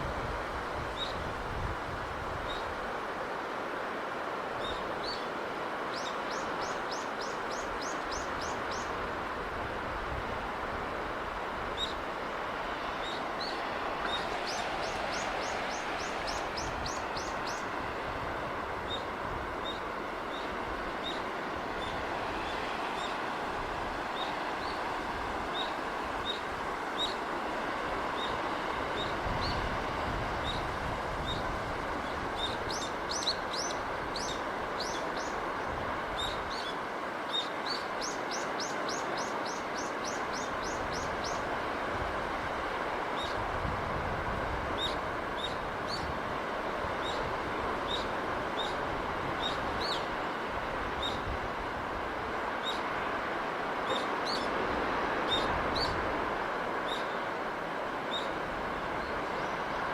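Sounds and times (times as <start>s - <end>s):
sea breeze and sea noise: 0.0s - 59.9s.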